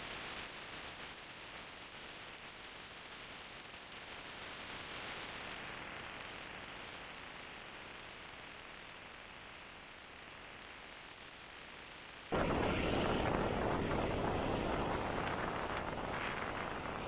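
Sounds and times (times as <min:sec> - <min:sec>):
wind and road noise hiss: 0:00.0 - 0:17.0.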